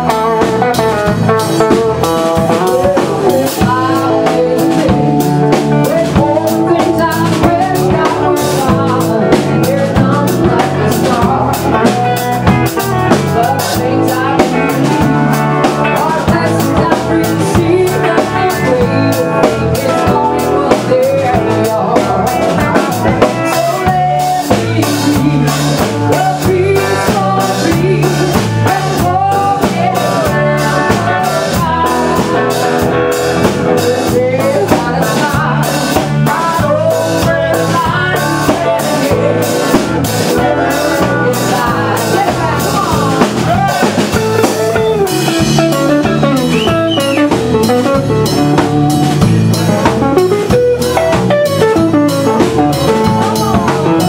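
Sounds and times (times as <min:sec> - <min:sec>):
drums beat: 0:00.0 - 0:54.0
woman singing: 0:00.0 - 0:54.0.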